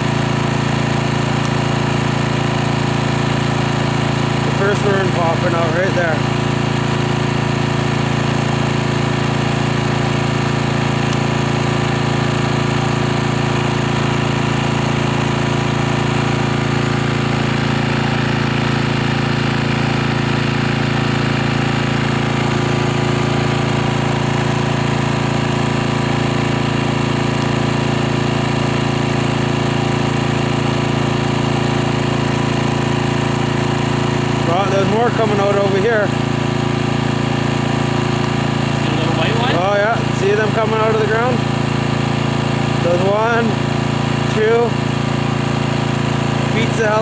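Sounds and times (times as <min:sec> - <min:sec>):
generator engine running: 0:00.0 - 0:47.0.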